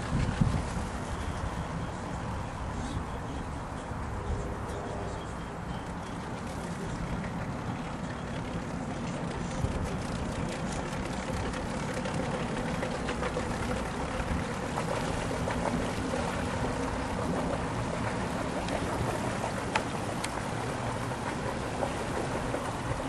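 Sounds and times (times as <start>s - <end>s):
boat engines rumbling: 0.0s - 23.0s.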